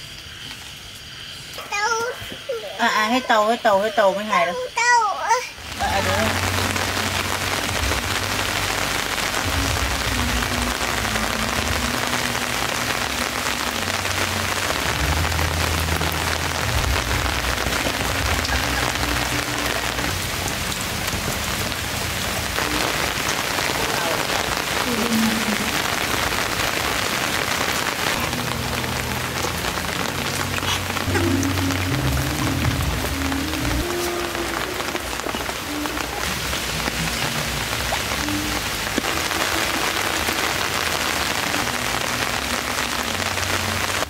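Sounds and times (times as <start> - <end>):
heavy rain on foliage: 0.0 - 44.0.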